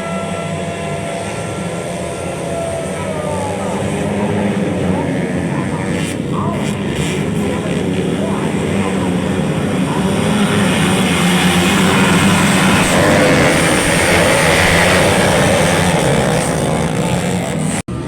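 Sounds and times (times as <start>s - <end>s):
dirt bike engines racing: 0.0s - 18.0s.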